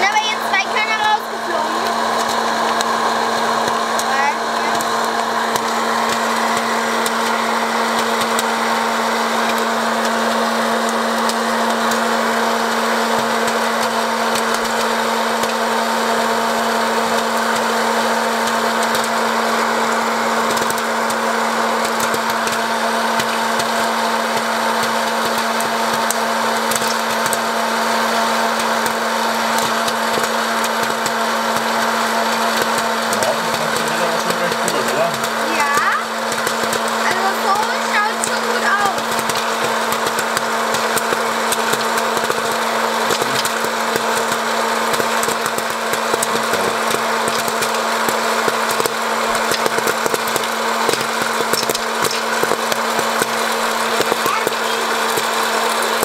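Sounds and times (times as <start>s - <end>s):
popcorn kernels popping: 0.0s - 56.0s
popcorn maker motor hum: 0.0s - 56.0s
popcorn dropping into plastic bowl: 4.7s - 56.0s.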